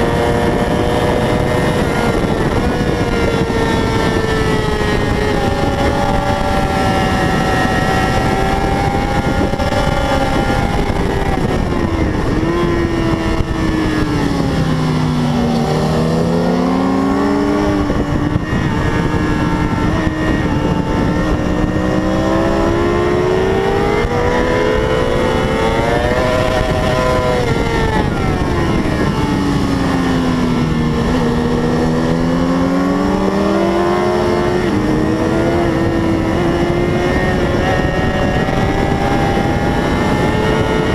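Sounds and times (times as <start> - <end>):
racing motorcycle engine revving: 0.0 - 40.9
wind noise: 0.0 - 40.9.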